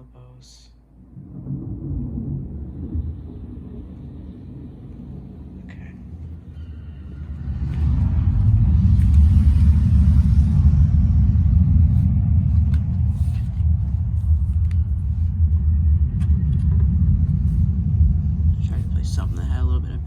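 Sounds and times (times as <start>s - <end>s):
deep subwoofer bass rumble: 0.9s - 20.0s.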